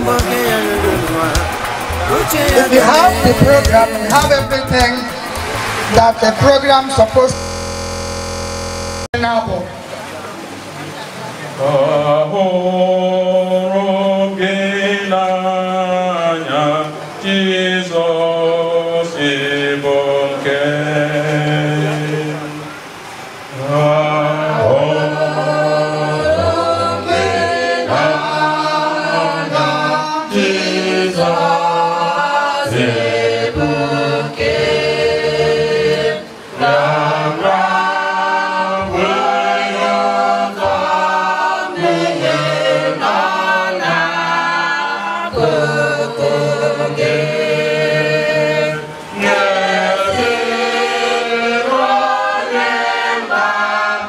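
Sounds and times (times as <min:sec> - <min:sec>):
group singing a hymn: 0:00.0 - 0:08.9, 0:11.5 - 0:54.0.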